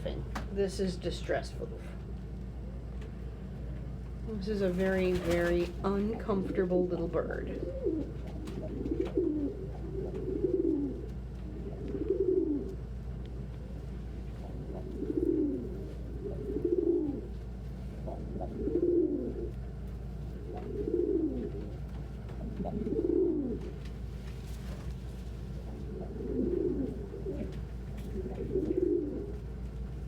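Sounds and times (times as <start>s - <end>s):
steady low hum: 0.0s - 30.0s
pigeons cooing: 4.7s - 24.2s, 25.4s - 30.0s.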